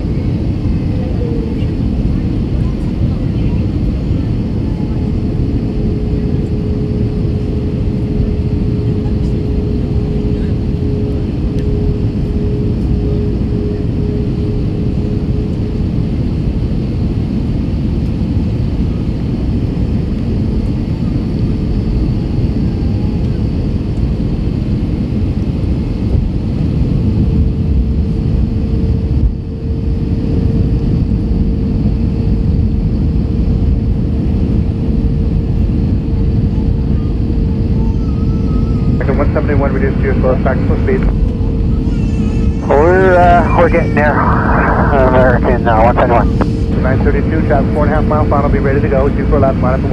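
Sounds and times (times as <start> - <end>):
airliner engines and airflow roar: 0.0 - 49.9
constant engine whine: 0.0 - 49.9.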